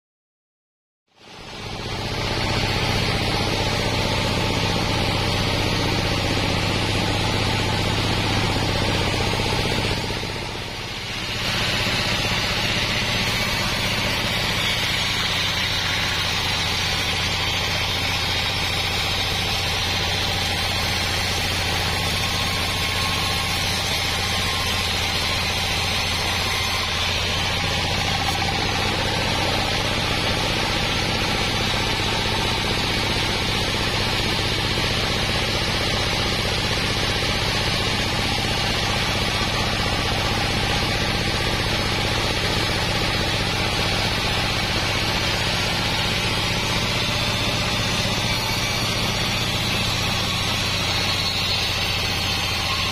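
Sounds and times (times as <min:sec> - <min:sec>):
diesel engine running: 0:01.2 - 0:52.9
band saw cutting log: 0:01.4 - 0:52.9.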